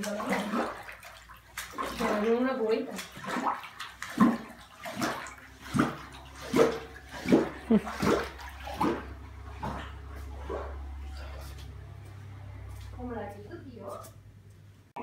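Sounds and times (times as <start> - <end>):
water sloshing under a squeegee: 0.0 - 14.2.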